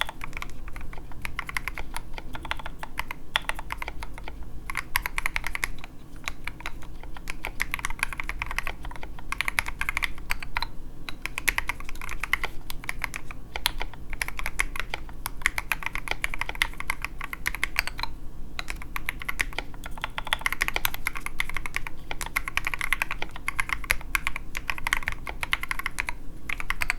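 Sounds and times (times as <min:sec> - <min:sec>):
mechanical keyboard typing: 0:00.0 - 0:26.9.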